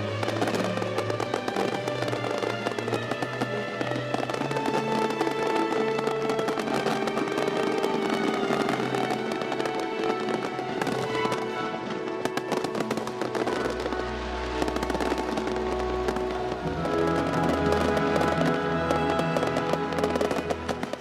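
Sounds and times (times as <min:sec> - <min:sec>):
fireworks crackling and popping: 0:00.0 - 0:21.0
music with sustained notes: 0:00.0 - 0:21.0.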